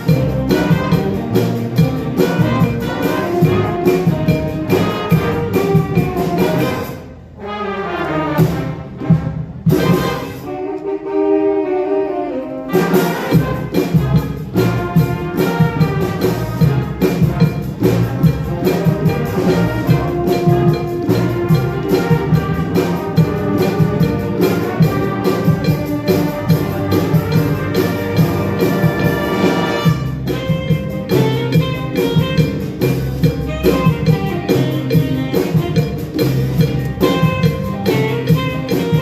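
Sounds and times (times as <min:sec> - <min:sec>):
steady drum beat: 0:00.0 - 0:07.4, 0:08.0 - 0:10.6, 0:12.7 - 0:39.0
band playing upbeat piece: 0:00.0 - 0:39.0.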